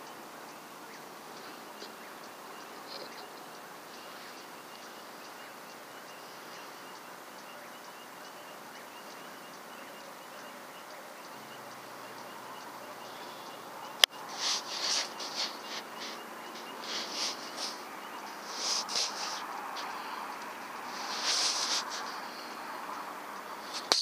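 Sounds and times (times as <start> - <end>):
insects chirping: 0.0 - 24.0
steady hiss: 0.0 - 24.0.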